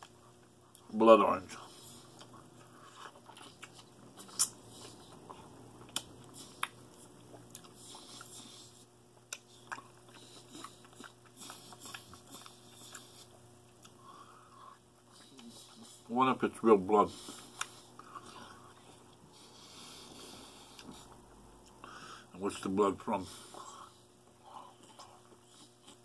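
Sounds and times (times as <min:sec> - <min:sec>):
faint steady hum: 0:00.0 - 0:26.0
person chewing juicy fruit: 0:01.5 - 0:22.0, 0:22.7 - 0:26.0.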